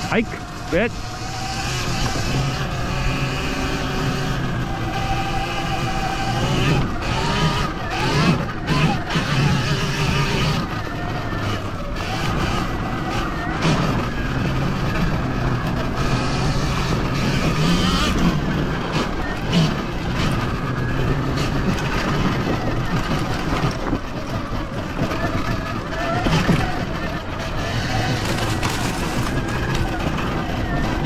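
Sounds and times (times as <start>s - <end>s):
electric motor whine: 0.0s - 31.0s
tyre and wind rumble: 0.0s - 31.0s.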